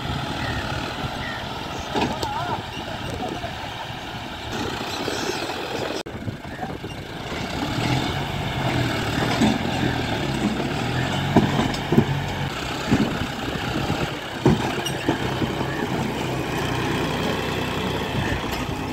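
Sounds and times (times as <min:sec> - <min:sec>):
trailer knocks and clunks: 0:00.0 - 0:03.5, 0:06.2 - 0:18.9
tractor diesel engine under load: 0:00.0 - 0:18.9.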